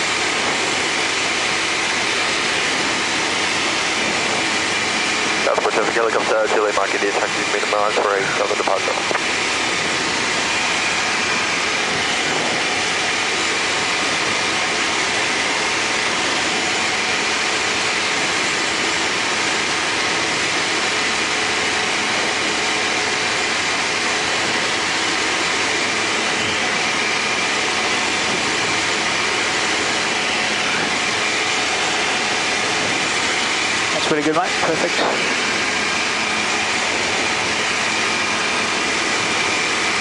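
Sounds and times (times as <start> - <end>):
rushing air: 0.0 - 6.4, 7.2 - 40.0
engine and propeller drone: 0.0 - 40.0.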